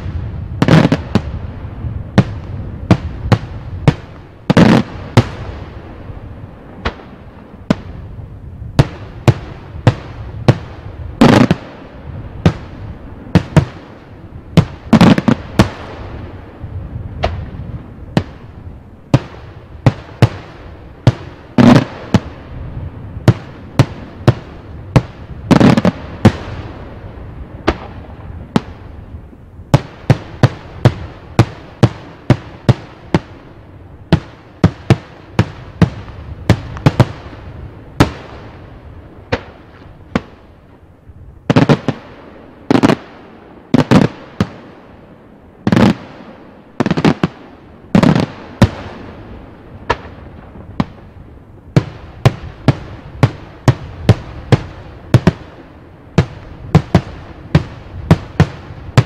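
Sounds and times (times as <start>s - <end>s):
echoing firework booms: 0.0s - 40.5s, 41.5s - 45.0s, 45.6s - 59.0s
fireworks bangs: 0.0s - 40.8s, 41.4s - 59.0s.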